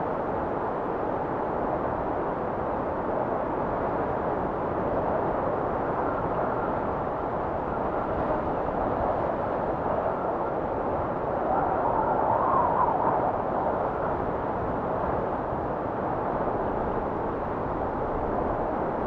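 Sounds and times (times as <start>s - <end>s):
blizzard wind: 0.0s - 19.0s.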